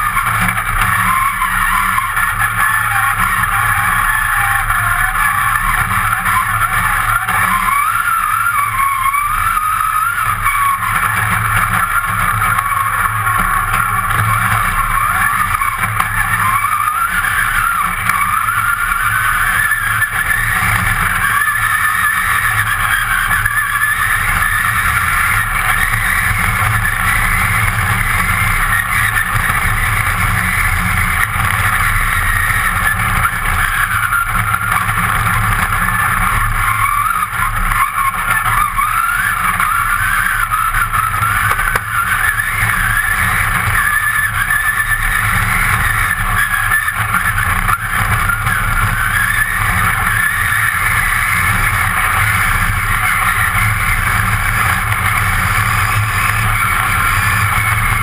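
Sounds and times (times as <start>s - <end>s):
car engine revving: 0.0s - 58.0s
tyre noise on loose ground: 0.0s - 58.0s.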